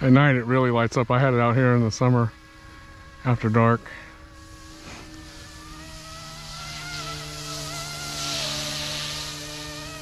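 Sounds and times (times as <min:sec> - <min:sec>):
toy helicopter motor whine: 0:00.0 - 0:10.0.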